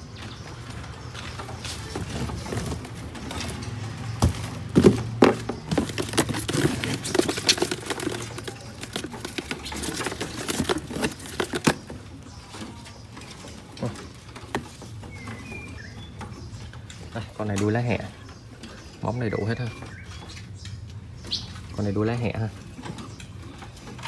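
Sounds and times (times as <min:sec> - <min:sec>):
birds scrambling and fluttering: 0:00.0 - 0:24.0.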